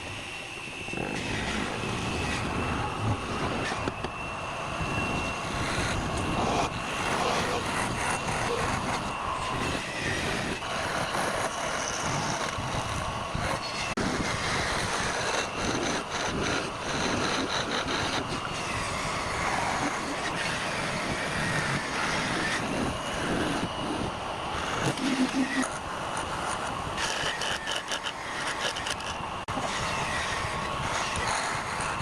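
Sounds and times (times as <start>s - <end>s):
lathe turning tool grinding: 1.0s - 32.0s.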